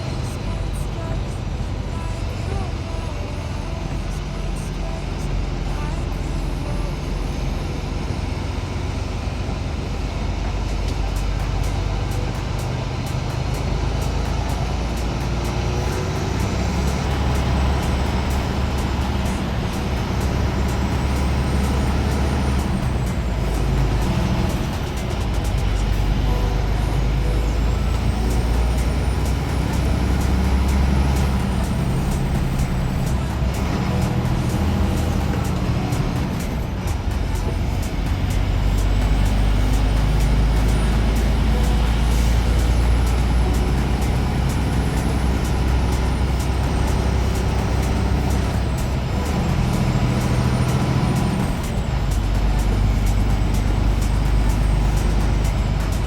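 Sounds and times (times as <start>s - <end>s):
background music: 0.0s - 56.0s
road noise: 0.0s - 56.0s
truck engine running: 0.0s - 56.0s.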